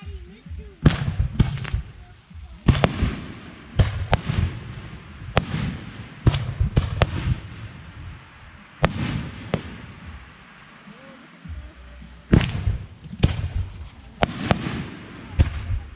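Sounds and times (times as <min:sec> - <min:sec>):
fireworks exploding: 0:00.0 - 0:15.9.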